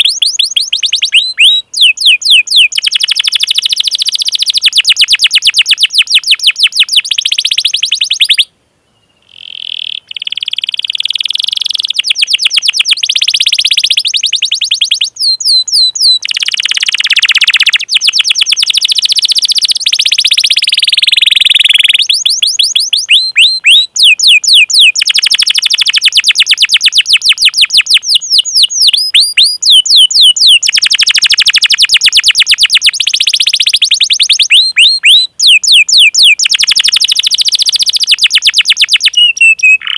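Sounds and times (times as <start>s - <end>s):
canary singing: 0.0s - 8.5s, 9.1s - 39.9s.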